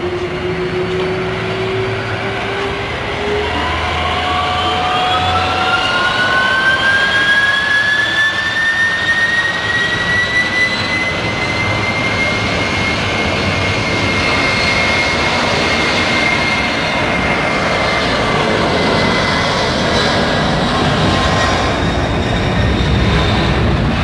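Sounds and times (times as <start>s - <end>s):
jet engine roar: 0.0s - 24.0s
jet engine whine rising: 0.0s - 24.0s.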